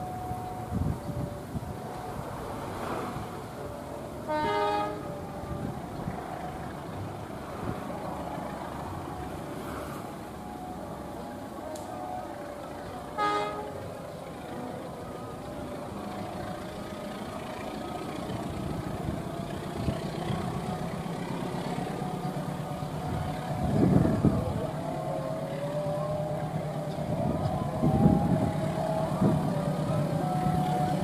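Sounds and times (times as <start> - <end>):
locomotive engine rumbling: 0.0 - 31.0.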